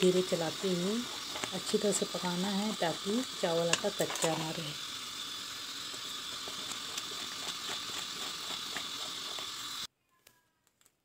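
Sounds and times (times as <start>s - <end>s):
batter sizzling in syrup: 0.0s - 9.9s.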